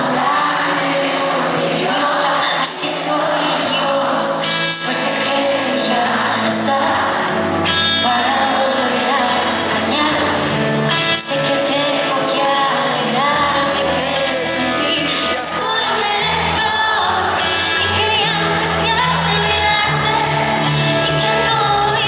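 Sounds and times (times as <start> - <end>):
live band with electric guitars: 0.0 - 22.0
woman singing into microphone: 0.0 - 22.0.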